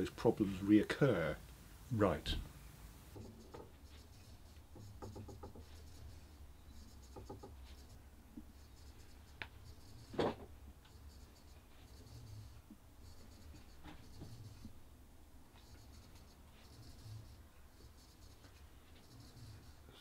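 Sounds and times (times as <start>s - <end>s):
longbow creaking and scratching: 3.2s - 14.8s, 15.5s - 20.0s.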